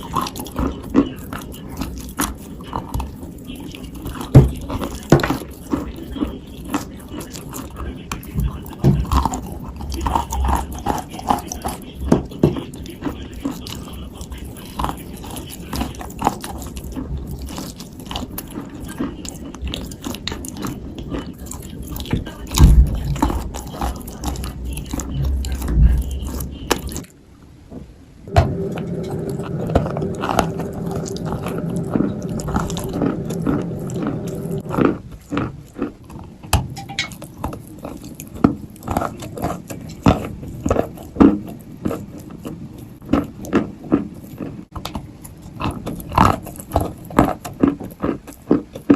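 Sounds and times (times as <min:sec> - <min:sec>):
person chewing crunchy clay: 0:00.0 - 0:27.2, 0:28.3 - 0:48.9.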